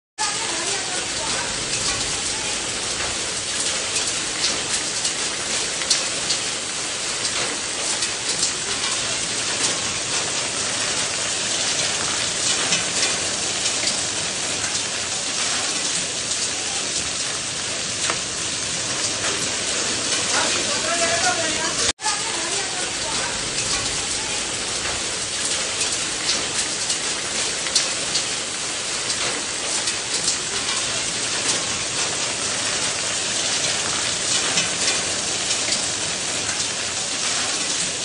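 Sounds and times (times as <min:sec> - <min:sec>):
heavy rain on a roof: 0:00.2 - 0:38.0.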